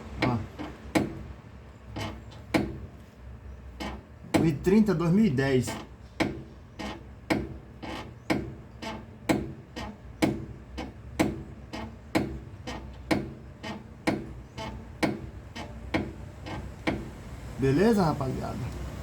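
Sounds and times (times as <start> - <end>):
suspension bushing creaking: 0.0 - 3.0, 3.6 - 17.6.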